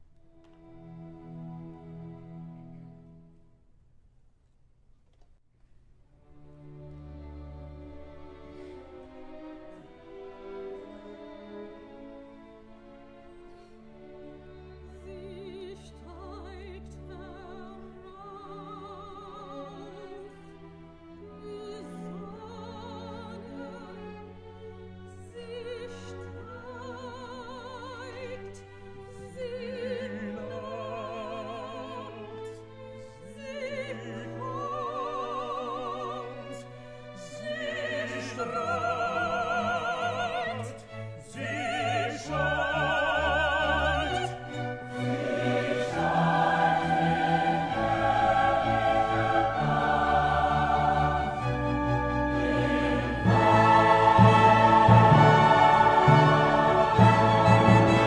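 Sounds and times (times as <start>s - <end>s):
orchestra playing: 6.2s - 58.0s.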